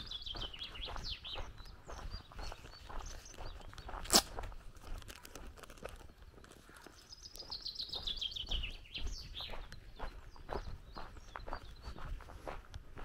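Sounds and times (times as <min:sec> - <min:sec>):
footsteps crunching on dirt: 0:00.0 - 0:13.0
songbird singing: 0:00.0 - 0:13.0.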